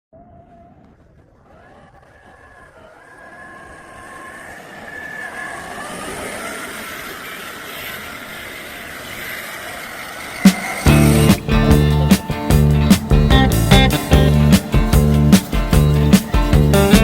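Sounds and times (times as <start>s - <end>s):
toy truck motor whine: 2.4s - 17.0s.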